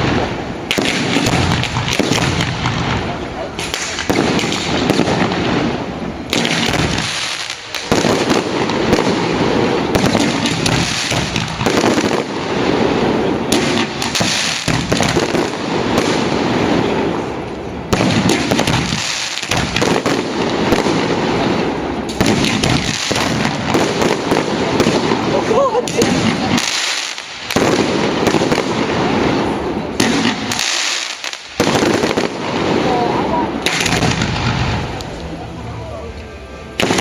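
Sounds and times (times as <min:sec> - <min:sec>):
fireworks bangs and crackles: 0:00.0 - 0:35.9, 0:36.7 - 0:37.0.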